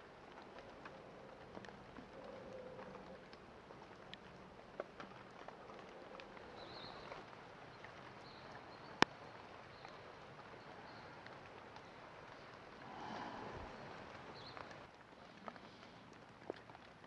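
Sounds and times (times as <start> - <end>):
light ticks: 0.0 - 17.0
steady forest hiss: 0.0 - 17.0.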